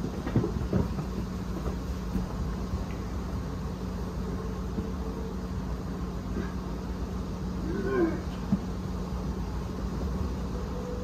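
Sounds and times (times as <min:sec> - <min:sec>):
faint steady hum: 0:00.0 - 0:11.0
steady low rumble: 0:00.0 - 0:11.0.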